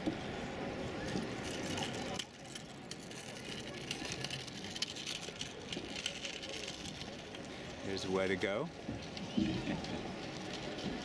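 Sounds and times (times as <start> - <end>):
distant voices: 0.0 - 11.0.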